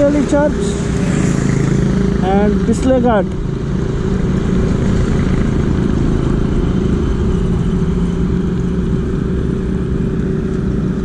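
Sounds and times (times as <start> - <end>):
motorcycle engine running: 0.0 - 11.0
rushing wind: 0.0 - 11.0.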